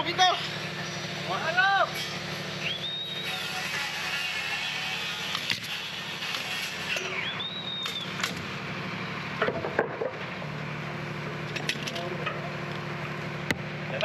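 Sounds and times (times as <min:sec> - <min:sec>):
machine engine running: 0:00.0 - 0:14.0.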